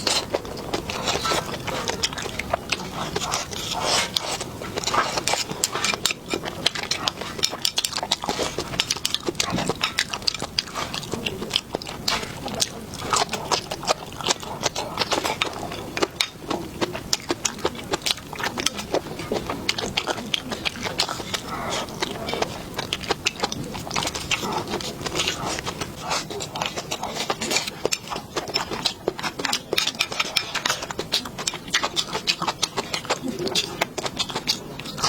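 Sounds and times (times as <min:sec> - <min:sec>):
wet chewing and mouth clicks: 0:00.0 - 0:35.0.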